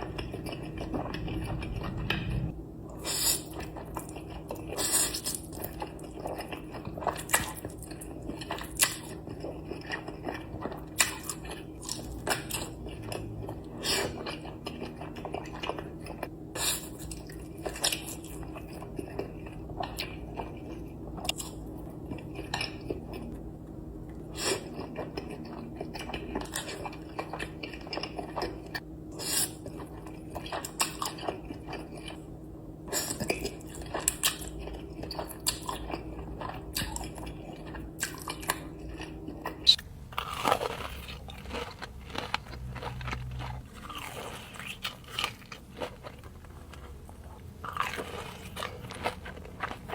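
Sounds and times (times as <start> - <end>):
chewing with crunches: 0.0 - 49.9
faint low hum: 0.0 - 49.9.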